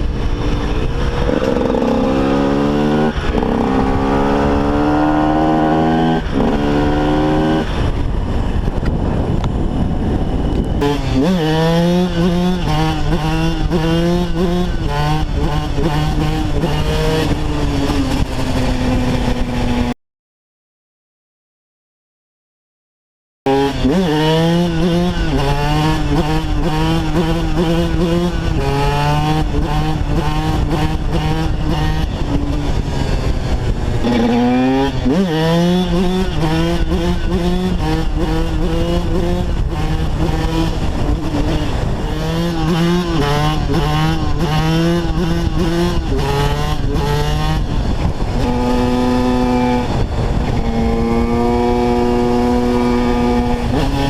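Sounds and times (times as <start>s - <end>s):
motorcycle engine revving hard: 0.0s - 19.9s, 23.5s - 54.0s.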